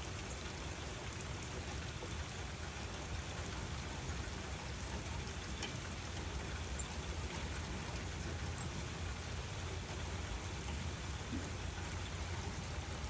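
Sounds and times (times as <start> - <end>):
steady rainfall hiss: 0.0 - 13.0.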